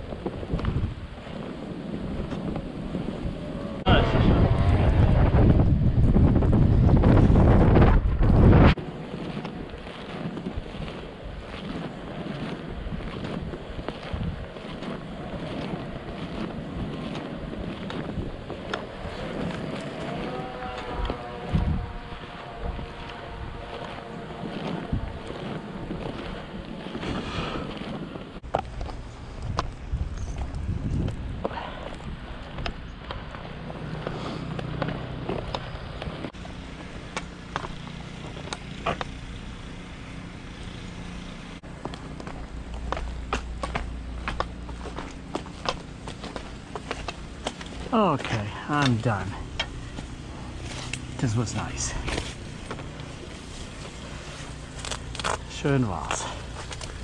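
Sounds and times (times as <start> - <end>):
low engine hum: 0.0 - 57.0
wind buffeting microphone: 0.0 - 57.0
footsteps in snow: 7.0 - 57.0.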